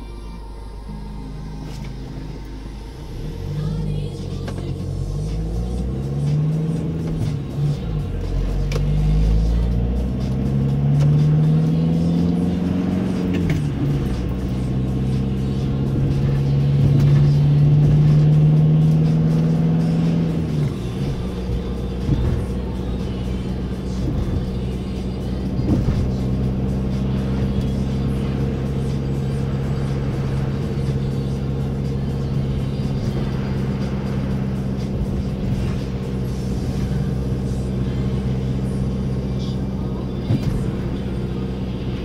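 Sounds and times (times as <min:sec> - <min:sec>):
car engine accelerating: 0:00.0 - 0:42.0.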